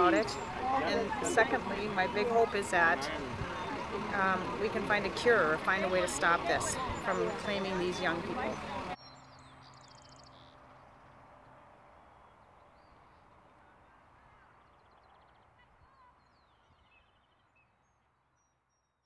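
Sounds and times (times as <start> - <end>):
small birds chirping and trilling: 0.0 - 17.8.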